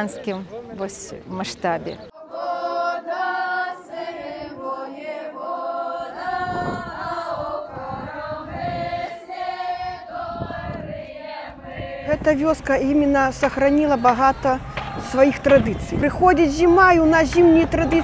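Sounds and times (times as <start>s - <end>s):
women singing folk song: 2.1s - 18.0s.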